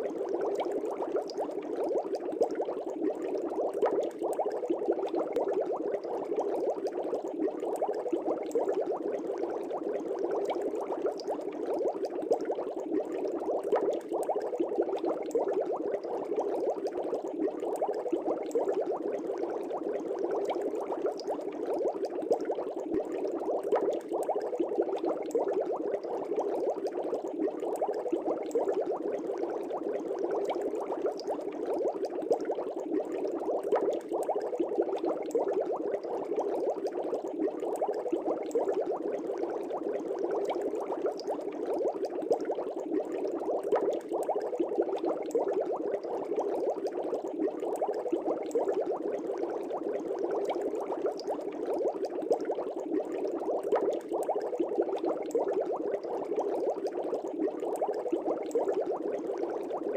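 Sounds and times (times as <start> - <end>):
aquarium air bubbles burbling: 0.0 - 59.9.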